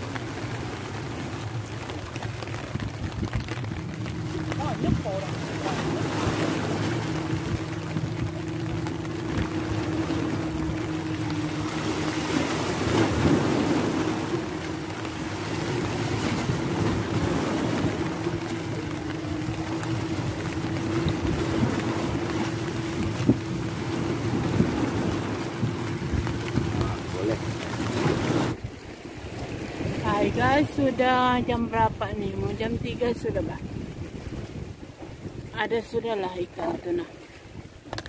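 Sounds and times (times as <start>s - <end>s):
rain: 0.0s - 30.7s
constant low drone: 0.0s - 38.0s
sea waves on rocks: 0.0s - 38.0s
wind on microphone: 0.0s - 38.0s.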